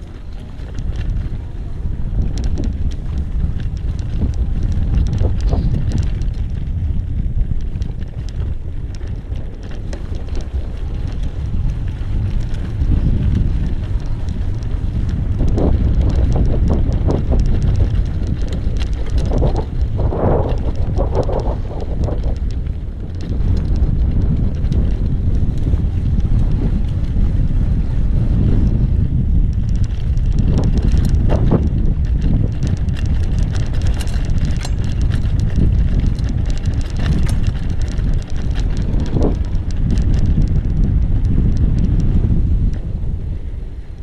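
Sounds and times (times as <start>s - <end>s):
small clicks and rattles: 0.0s - 43.0s
wind buffeting microphone: 0.0s - 44.0s.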